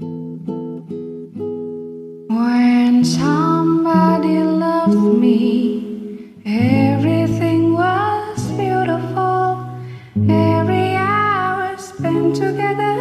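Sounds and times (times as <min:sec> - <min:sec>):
woman singing a slow ballad: 0:02.3 - 0:13.0.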